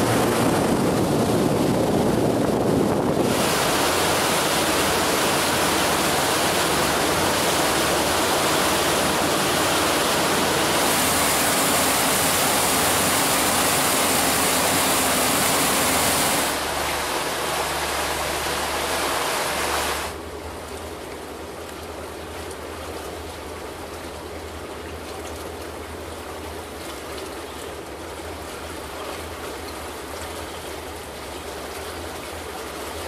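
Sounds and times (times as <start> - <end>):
low engine drone: 0.0 - 27.2
rush of wind and water: 0.0 - 33.0.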